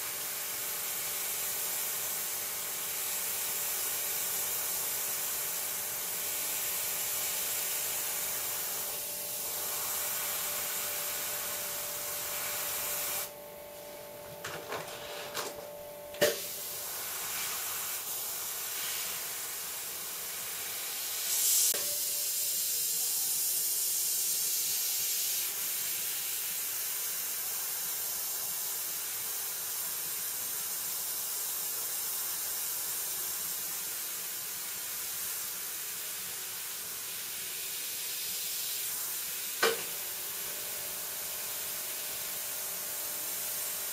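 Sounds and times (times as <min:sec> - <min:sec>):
airbrush hissing: 0:00.0 - 0:13.3, 0:16.2 - 0:43.9.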